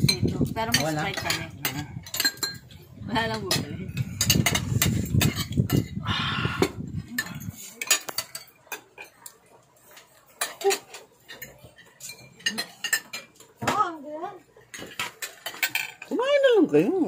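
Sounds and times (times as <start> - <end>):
cutlery clinking on plates: 0.0 - 6.0, 6.7 - 13.8, 14.6 - 16.2.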